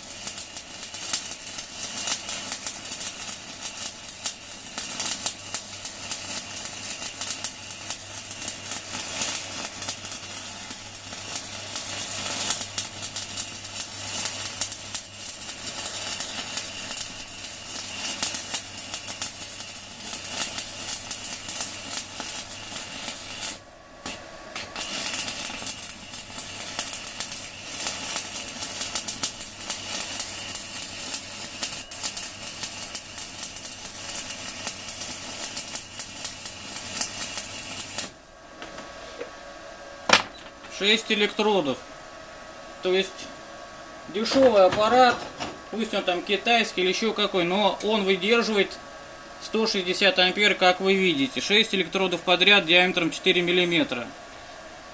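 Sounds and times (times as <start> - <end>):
welding arc crackling and hissing: 0.0 - 54.9.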